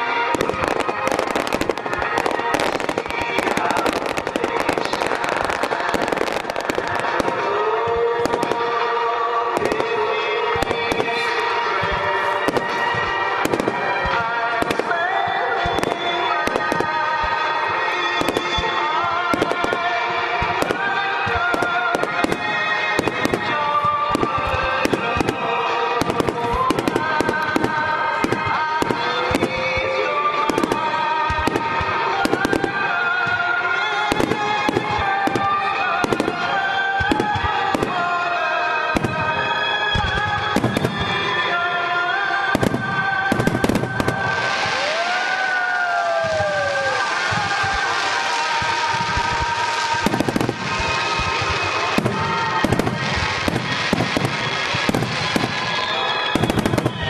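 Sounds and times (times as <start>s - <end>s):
fireworks bursting: 0.0s - 57.0s
music: 0.0s - 57.0s.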